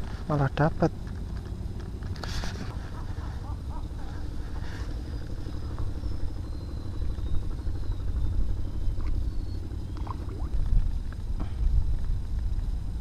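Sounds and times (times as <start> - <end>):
wind buffeting microphone: 2.4 - 13.0.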